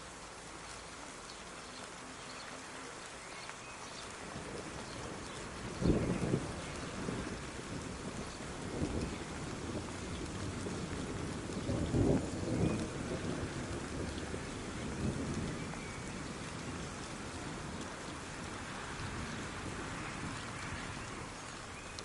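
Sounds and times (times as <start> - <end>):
steady rain falling: 0.0 - 22.0
distant thunder rumble: 4.0 - 22.0.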